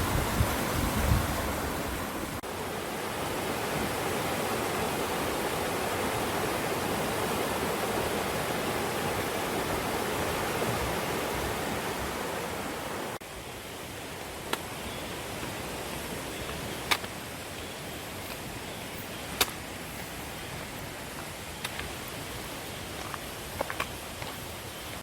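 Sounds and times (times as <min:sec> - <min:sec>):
stream flowing over rocks: 0:00.0 - 0:25.0.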